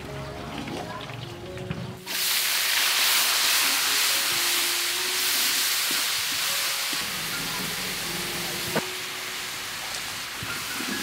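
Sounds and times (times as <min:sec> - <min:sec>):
greens sizzling in a wok: 0:02.0 - 0:11.0.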